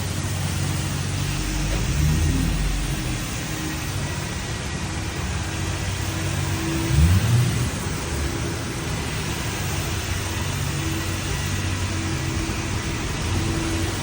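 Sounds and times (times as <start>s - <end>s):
constant rushing noise: 0.0s - 14.0s
vehicle engine running: 0.0s - 14.0s.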